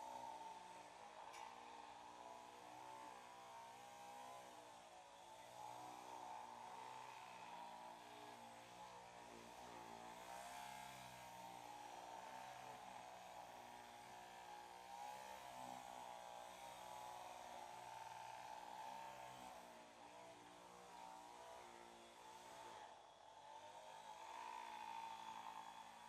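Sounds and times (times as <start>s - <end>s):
massage machine buzzing: 0.0s - 26.0s.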